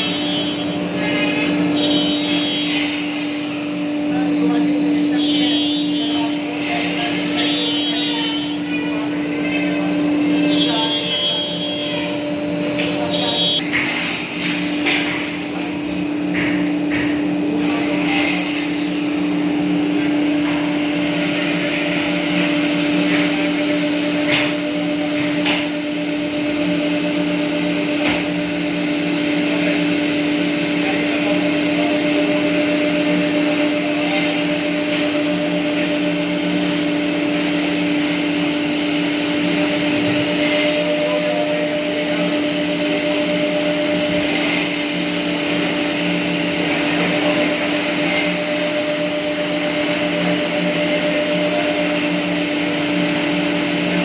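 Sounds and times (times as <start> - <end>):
router spindle whine: 0.0 - 54.0.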